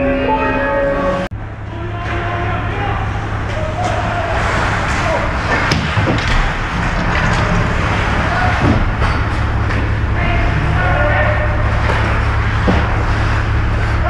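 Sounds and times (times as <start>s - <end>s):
crowd and player voices: 0.0s - 14.0s
steady low hum: 0.9s - 14.0s.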